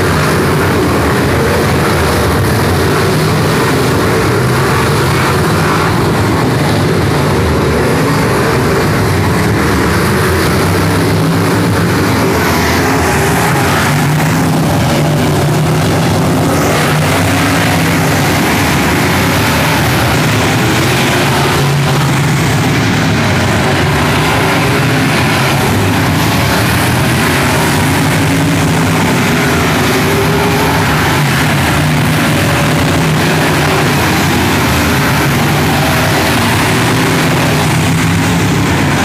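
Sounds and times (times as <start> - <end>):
race car engines droning: 0.0 - 39.0.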